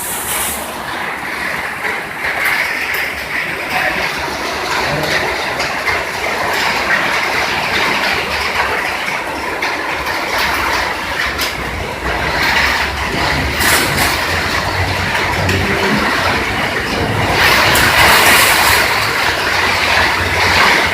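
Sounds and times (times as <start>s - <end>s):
heavy rain: 0.0s - 20.9s
wind: 0.0s - 20.9s.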